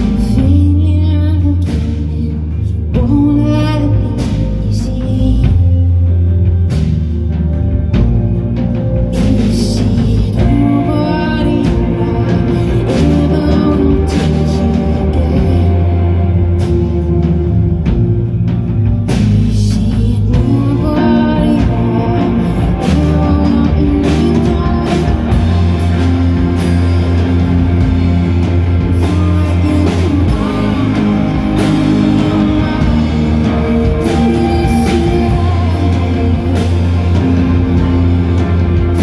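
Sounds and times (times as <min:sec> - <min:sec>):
person singing: 0:00.0 - 0:06.8, 0:08.9 - 0:39.0
electric guitar chords: 0:00.0 - 0:39.0
heavy low end: 0:00.0 - 0:39.0.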